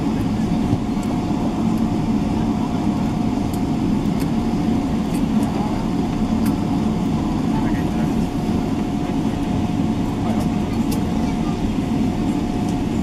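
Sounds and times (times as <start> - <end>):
airplane cabin engine rumble: 0.0 - 13.0
constant engine whine: 0.0 - 13.0.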